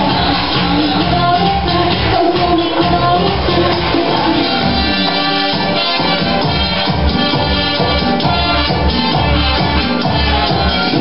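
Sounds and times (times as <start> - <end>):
salsa dance music: 0.0 - 11.0.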